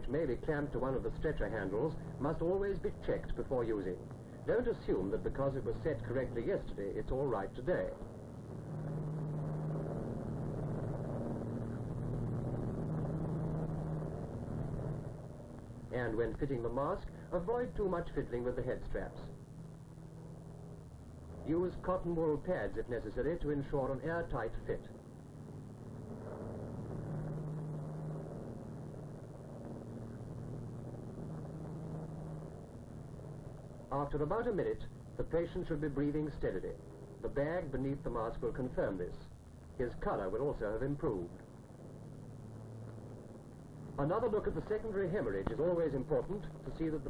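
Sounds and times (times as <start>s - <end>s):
constant rushing noise: 0.0s - 47.0s
propeller plane engines droning: 0.0s - 47.0s.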